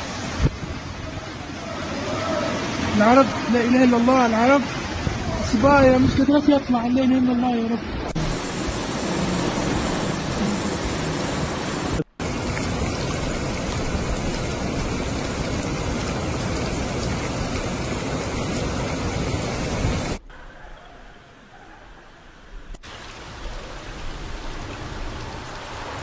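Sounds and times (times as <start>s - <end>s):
floodwater rushing: 0.0s - 26.0s
torrential rain: 0.0s - 26.0s.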